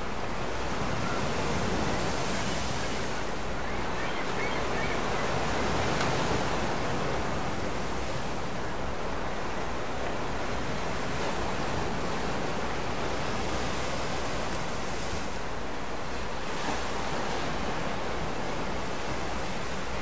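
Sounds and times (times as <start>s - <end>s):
waves on lake water: 0.0s - 20.0s
wind: 0.0s - 20.0s.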